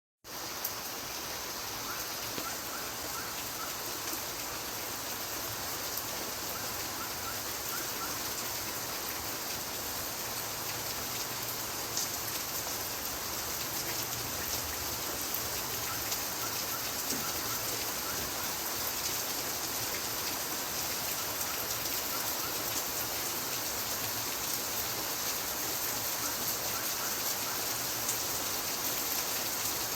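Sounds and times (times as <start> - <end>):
steady rain falling: 0.2 - 29.9.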